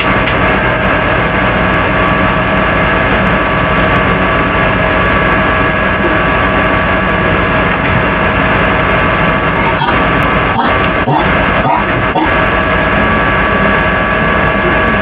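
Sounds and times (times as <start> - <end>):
loud steady hum and hiss: 0.0 - 15.0.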